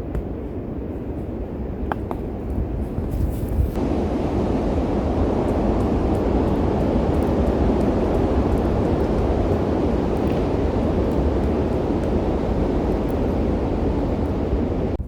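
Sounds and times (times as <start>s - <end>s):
strong storm wind rushing: 0.0s - 15.0s
wind hitting microphone: 0.0s - 15.0s.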